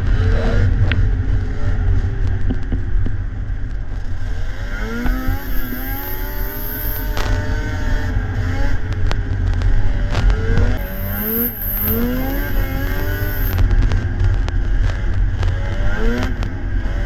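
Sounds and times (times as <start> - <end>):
snowmobile engines rumbling: 0.0 - 17.0.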